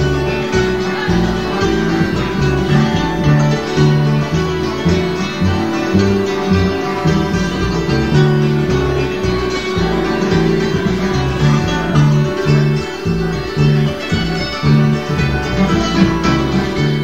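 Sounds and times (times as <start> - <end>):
bass line: 0.0 - 17.0
plucked acoustic guitar: 0.0 - 17.0.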